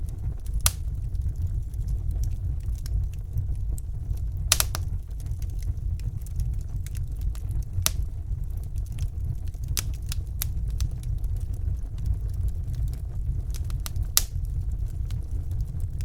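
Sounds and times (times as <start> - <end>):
fire burning in fireplace: 0.0 - 16.0
fire crackling and popping: 0.0 - 16.0.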